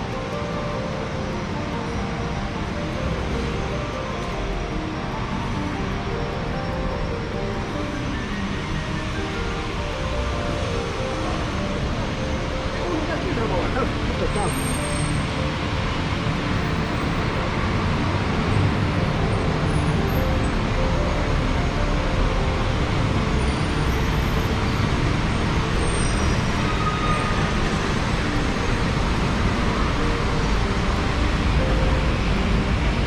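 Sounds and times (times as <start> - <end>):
city road traffic rumble: 0.0 - 33.0.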